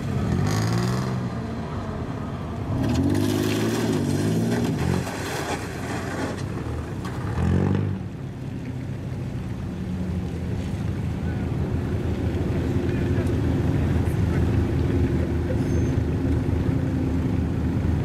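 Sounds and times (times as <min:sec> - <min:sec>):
car engines revving: 0:00.0 - 0:18.0
low engine hum: 0:00.0 - 0:18.0.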